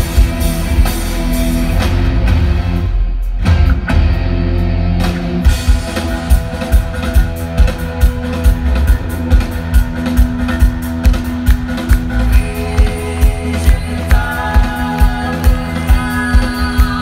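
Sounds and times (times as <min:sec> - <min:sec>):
bass guitar: 0:00.0 - 0:17.0
distorted electric guitars: 0:00.0 - 0:17.0
drums driving beat: 0:00.0 - 0:17.0.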